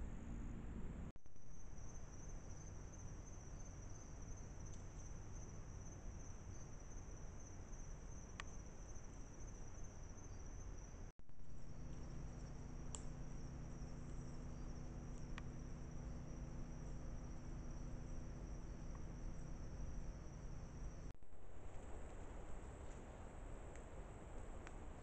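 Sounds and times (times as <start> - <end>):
crickets trilling: 1.4 - 25.0.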